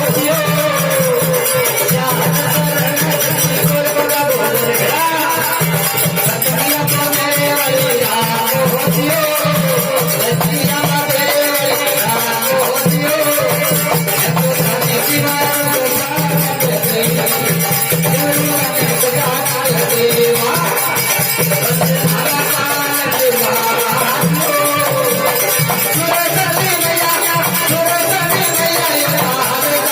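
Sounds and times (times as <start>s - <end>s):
jingling percussion: 0.0s - 29.9s.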